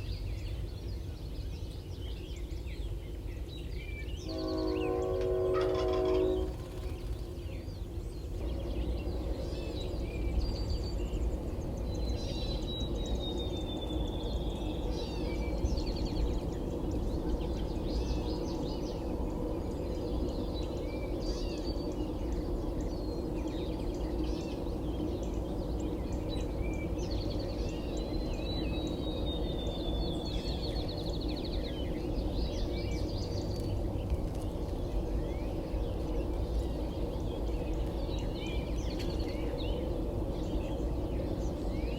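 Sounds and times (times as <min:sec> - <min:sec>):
songbirds chirping: 0:00.0 - 0:41.9
steady low rumble: 0:06.0 - 0:41.9.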